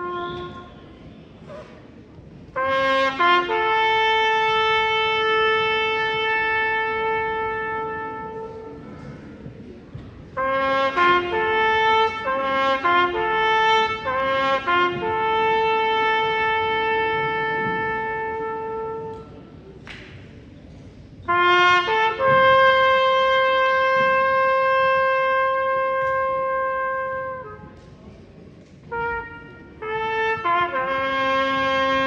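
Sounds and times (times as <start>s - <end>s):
trumpet slow melody: 0.0s - 1.5s, 2.4s - 9.2s, 10.3s - 19.5s, 21.2s - 27.8s, 28.8s - 32.0s.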